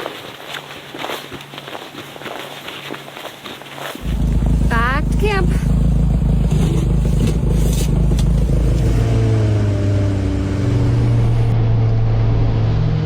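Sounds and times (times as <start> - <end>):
snow vehicle engine running: 0.0 - 13.0.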